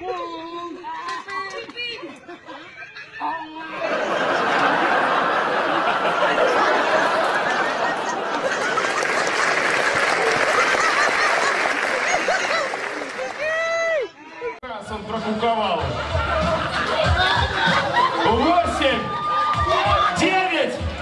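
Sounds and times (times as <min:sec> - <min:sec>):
crowd laughing and talking: 0:00.0 - 0:21.0.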